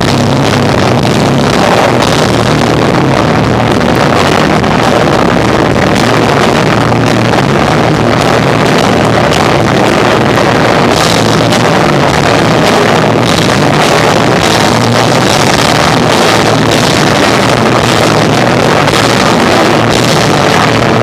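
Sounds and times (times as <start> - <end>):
distorted live rock band: 0.0 - 21.0.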